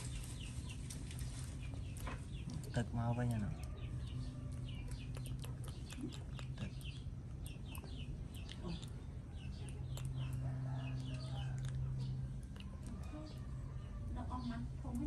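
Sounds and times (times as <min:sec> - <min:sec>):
birds chirping rapidly: 0:00.0 - 0:15.0
steady low hum: 0:00.0 - 0:15.0.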